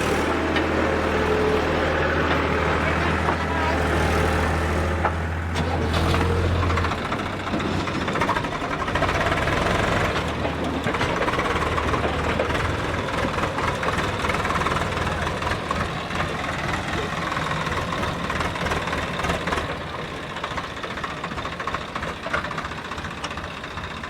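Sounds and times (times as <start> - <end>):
diesel tractor engine running: 0.0 - 24.0.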